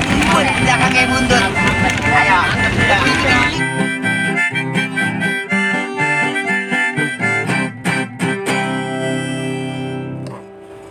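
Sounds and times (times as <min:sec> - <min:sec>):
guitar strokes: 0:00.0 - 0:10.9
harmonica tune over guitar: 0:00.0 - 0:10.9.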